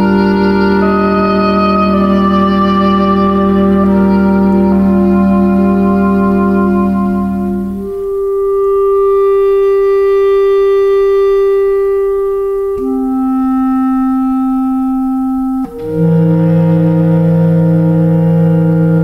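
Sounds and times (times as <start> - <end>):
slow ambient music: 0.0 - 19.0.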